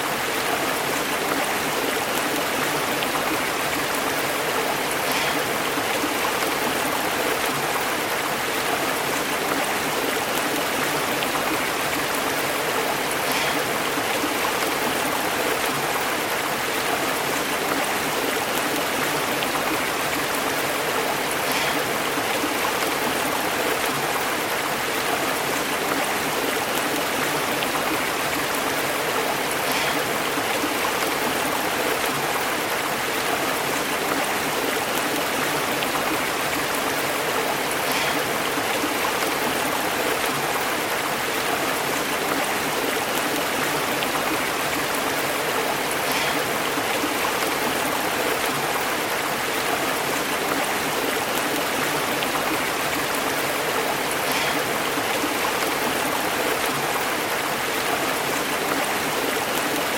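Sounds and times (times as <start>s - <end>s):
small water splashes: 0.0s - 59.9s
stream flowing over rocks: 0.0s - 59.9s.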